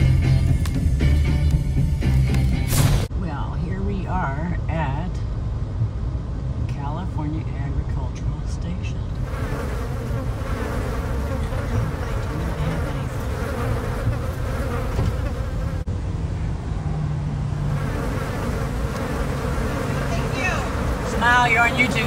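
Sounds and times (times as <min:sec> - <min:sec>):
car cabin road and engine drone: 0:00.0 - 0:22.0.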